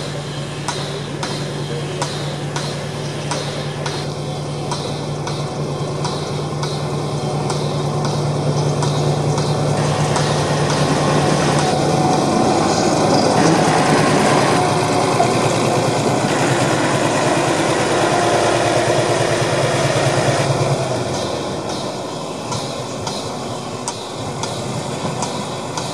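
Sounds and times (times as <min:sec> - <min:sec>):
diesel locomotive engine running: 0:00.0 - 0:25.9.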